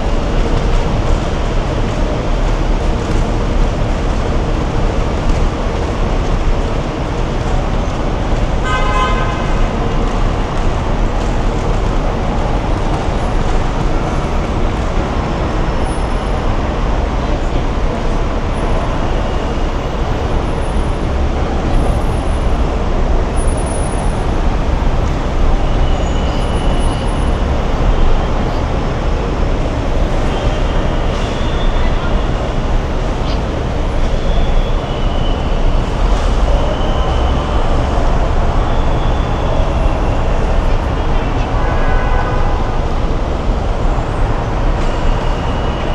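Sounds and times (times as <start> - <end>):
loud traffic noise: 0.0 - 45.9.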